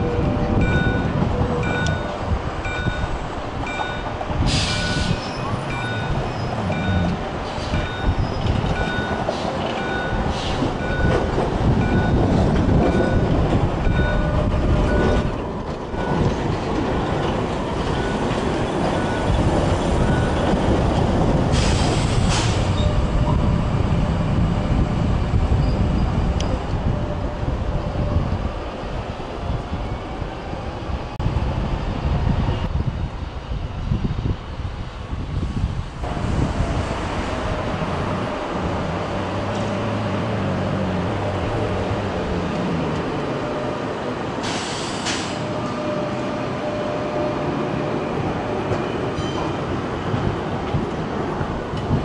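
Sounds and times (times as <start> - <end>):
trams rumbling on rails: 0.0 - 52.0.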